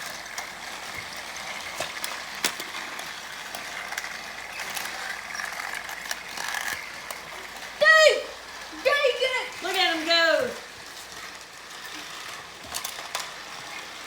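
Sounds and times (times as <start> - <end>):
sharp clicks of toy train track: 0.0 - 14.0
toy train motors whirring: 0.0 - 14.0.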